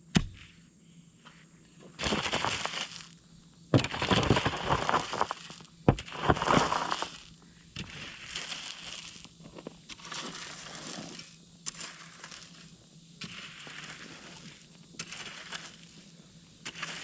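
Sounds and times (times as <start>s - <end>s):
shovel scraping through gravel: 2.0s - 3.2s, 3.8s - 17.0s.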